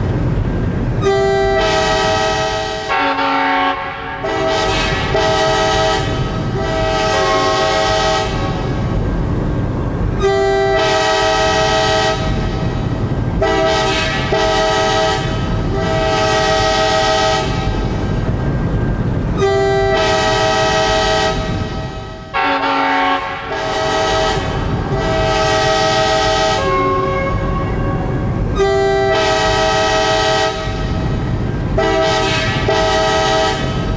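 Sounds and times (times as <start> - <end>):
low train rumble: 0.0 - 33.9
locomotive air horn: 1.0 - 9.0, 10.2 - 12.7, 13.4 - 18.0, 19.4 - 33.9.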